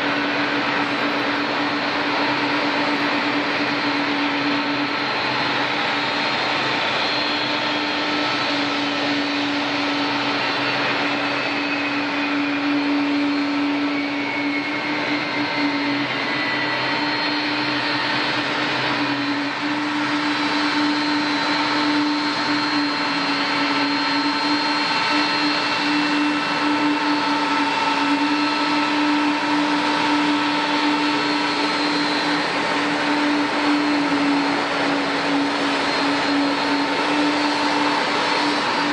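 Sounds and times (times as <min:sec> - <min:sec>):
jet engines humming and whining: 0:00.0 - 0:38.9.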